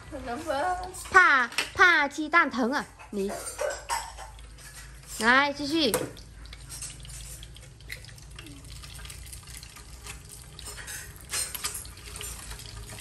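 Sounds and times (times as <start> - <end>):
eggs sizzling in oil: 0.0 - 13.0.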